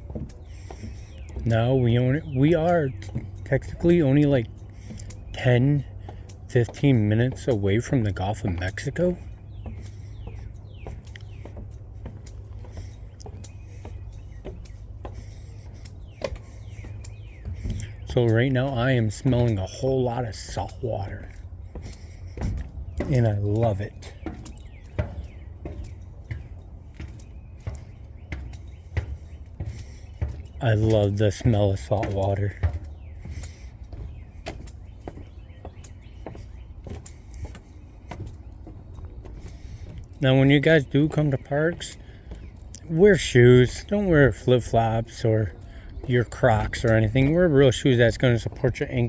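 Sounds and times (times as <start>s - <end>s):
footsteps on trail: 0.0s - 49.0s.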